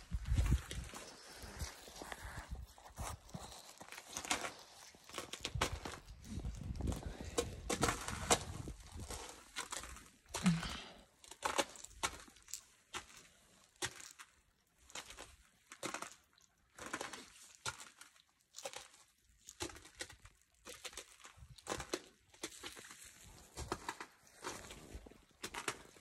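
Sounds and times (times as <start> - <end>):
crunching in ice and snow: 0.0 - 26.0.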